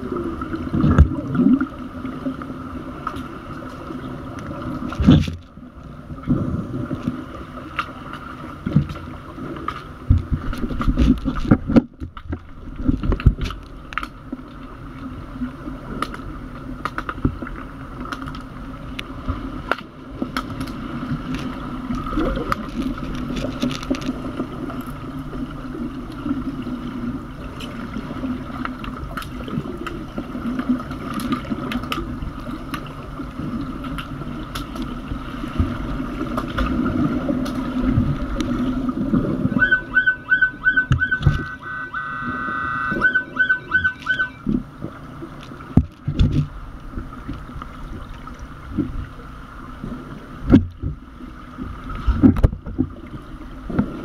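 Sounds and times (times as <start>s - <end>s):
low thumps and rumbling water: 0.0s - 54.0s
muffled underwater hum: 0.0s - 54.0s.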